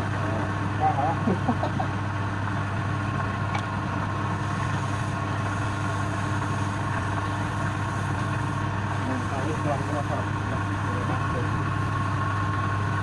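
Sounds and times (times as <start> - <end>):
wood lathe motor humming: 0.0 - 13.0.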